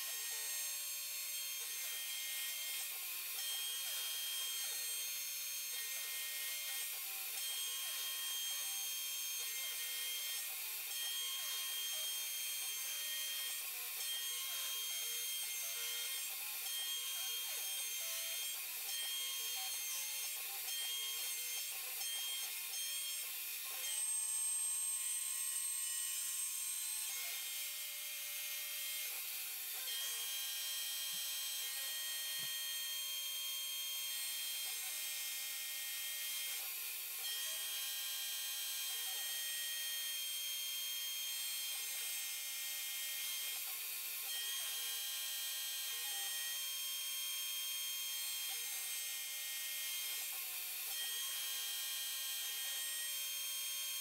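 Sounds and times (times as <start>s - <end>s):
router spindle whine: 0.0s - 54.0s.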